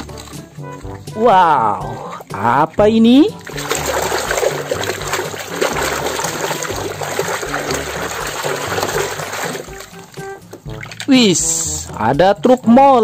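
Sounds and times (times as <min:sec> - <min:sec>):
muddy water sloshing and splashing: 0:00.0 - 0:12.0.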